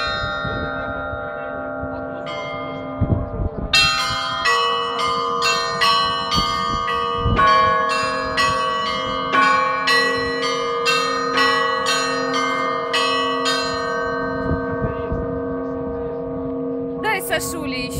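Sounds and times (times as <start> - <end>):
small church bells pealing: 0.0 - 17.9.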